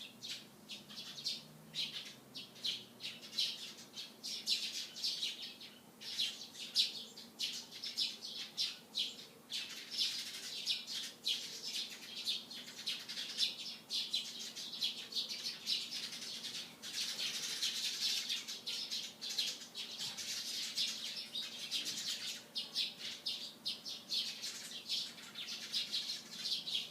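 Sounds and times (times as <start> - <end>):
sparrows chirping: 0.0 - 26.9.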